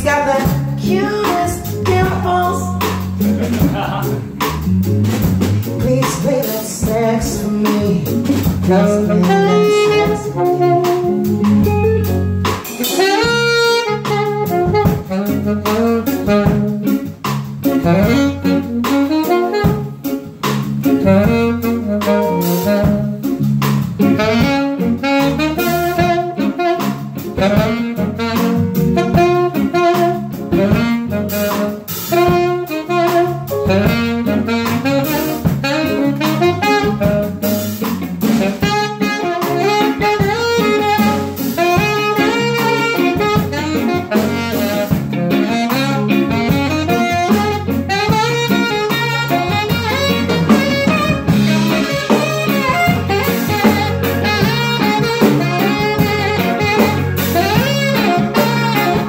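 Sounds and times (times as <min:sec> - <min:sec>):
alto saxophone jazz solo: 0:00.0 - 0:59.0
drums: 0:00.0 - 0:59.0
keyboard: 0:00.0 - 0:59.0
low bass notes: 0:00.0 - 0:59.0.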